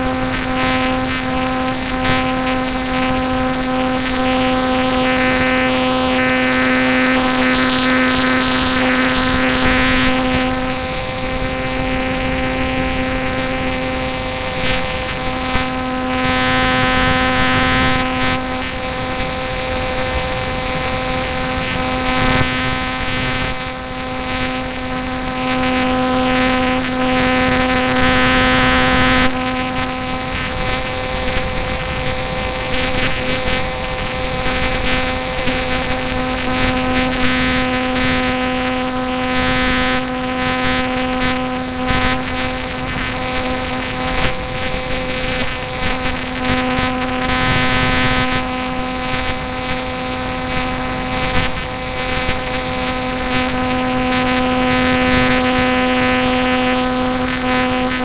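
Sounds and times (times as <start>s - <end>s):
aircraft engine running: 0.0s - 58.0s
airflow hiss over microphone: 0.0s - 58.0s.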